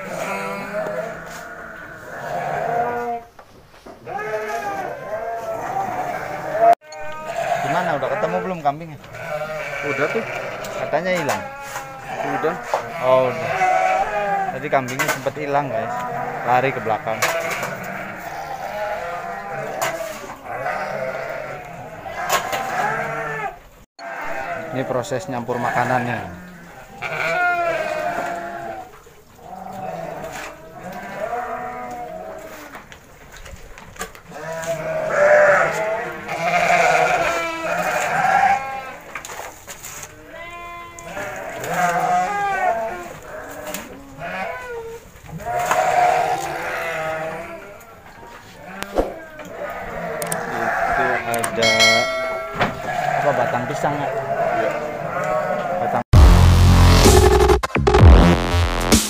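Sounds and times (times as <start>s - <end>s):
goats and sheep bleating: 0.0s - 3.4s, 4.0s - 33.0s, 34.1s - 58.7s.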